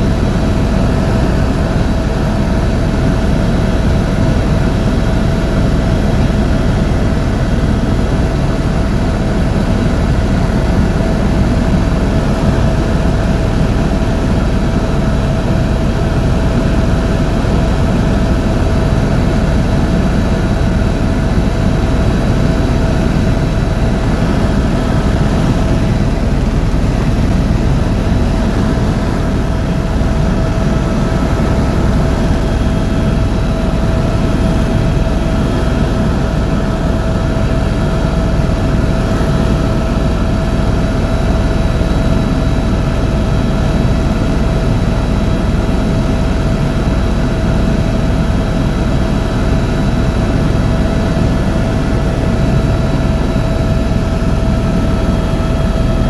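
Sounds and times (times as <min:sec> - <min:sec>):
helicopter rotor and engine rumble: 0:00.0 - 0:56.0.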